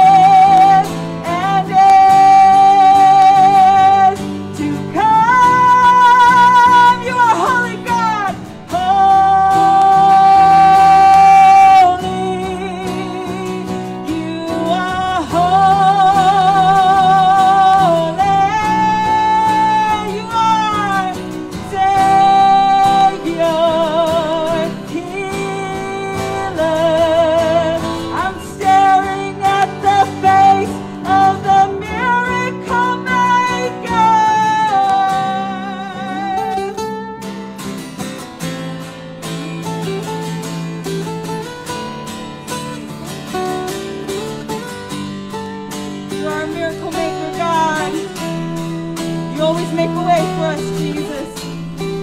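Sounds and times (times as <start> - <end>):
woman singing with vibrato: 0.0 - 37.5, 38.6 - 52.0
acoustic guitar: 0.0 - 52.0
electric guitar: 0.0 - 52.0.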